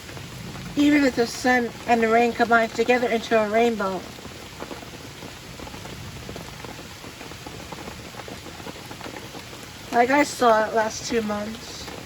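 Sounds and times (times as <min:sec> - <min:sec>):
rain drops ticking: 0:00.0 - 0:12.0.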